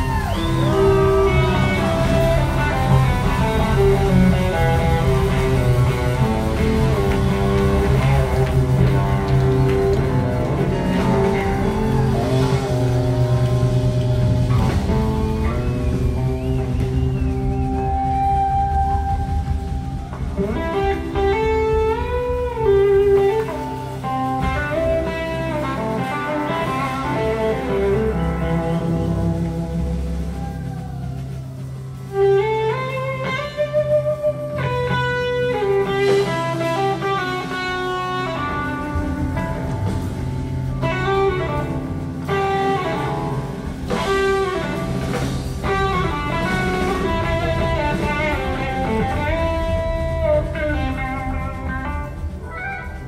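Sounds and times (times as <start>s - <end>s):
electric guitar lead runs: 0.0s - 53.0s
live rock band playing: 0.0s - 53.0s.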